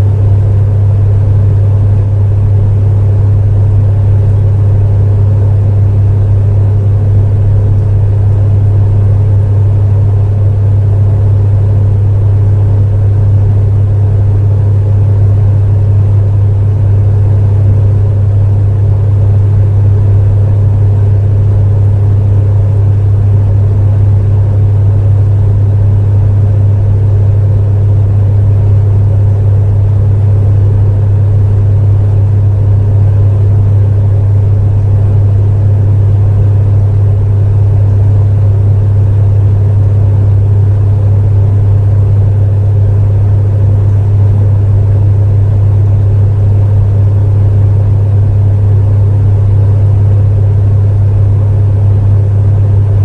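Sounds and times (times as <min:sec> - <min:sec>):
fan air rushing: 0:00.0 - 0:53.0
space heater humming: 0:00.0 - 0:53.0.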